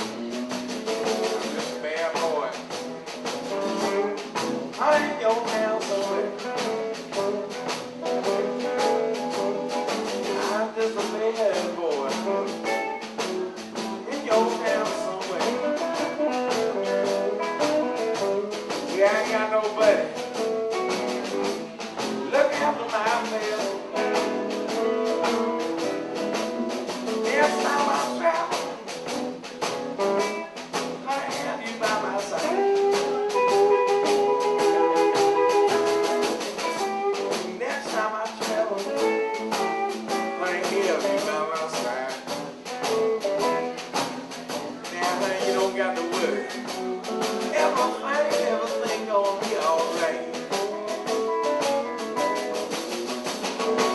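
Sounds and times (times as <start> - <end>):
blues band playing live: 0.0 - 53.9
electric guitar lead: 2.6 - 53.9
person singing: 3.6 - 18.2, 18.8 - 28.9, 30.0 - 52.8, 53.4 - 53.9.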